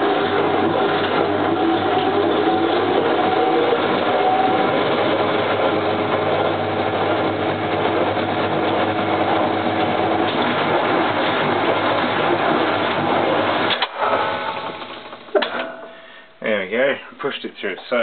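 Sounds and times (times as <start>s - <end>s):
washing machine motor whirring: 0.0s - 16.0s.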